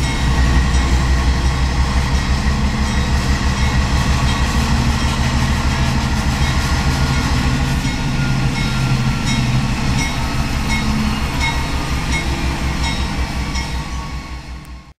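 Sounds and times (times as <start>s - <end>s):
diesel locomotive engine drone: 0.0s - 14.9s.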